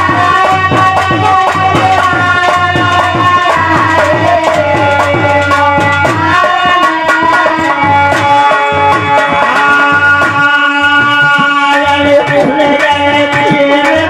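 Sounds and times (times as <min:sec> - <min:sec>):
dholak drum rhythm: 0:00.0 - 0:14.0.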